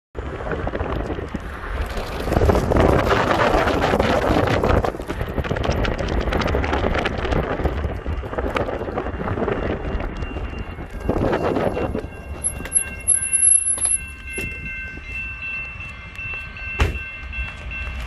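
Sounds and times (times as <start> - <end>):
freight train passing: 0.2 - 18.0
wind buffeting microphone: 0.2 - 18.0.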